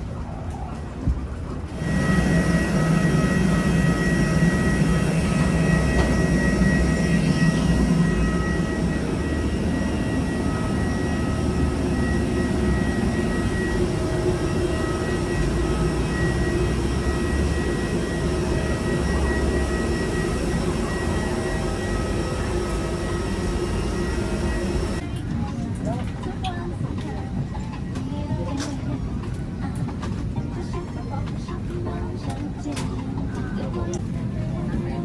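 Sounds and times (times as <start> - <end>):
jet airliner rumble and whines: 0.0 - 35.0.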